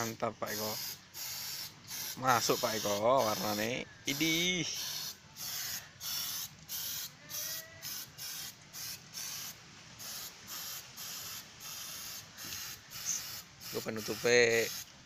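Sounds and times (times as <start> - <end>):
spray paint can hissing: 0.0 - 14.9.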